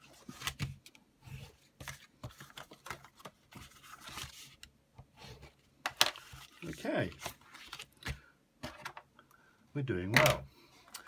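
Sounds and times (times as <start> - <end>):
paper rustling: 0.0 - 8.9.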